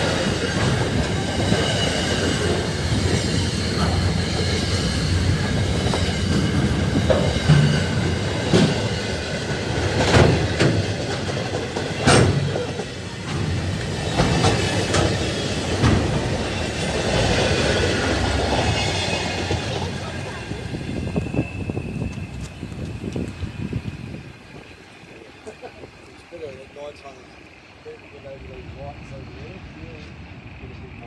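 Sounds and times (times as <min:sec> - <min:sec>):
train wagons rumbling past: 0:00.0 - 0:31.0
wheels clanking over rail joints: 0:00.0 - 0:31.0.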